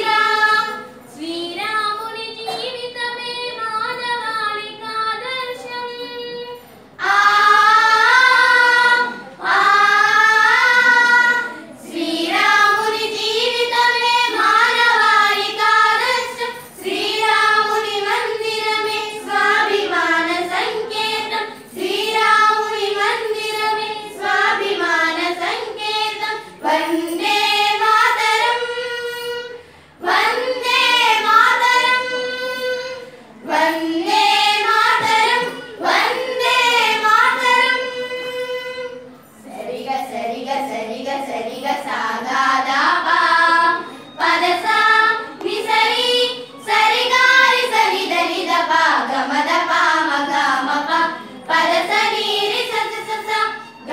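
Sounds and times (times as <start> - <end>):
girls singing without instruments: 0.0 - 53.9.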